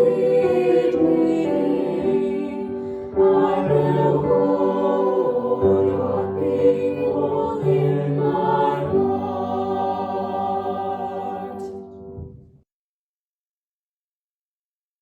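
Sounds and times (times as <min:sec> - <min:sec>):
slow church music: 0:00.0 - 0:12.6.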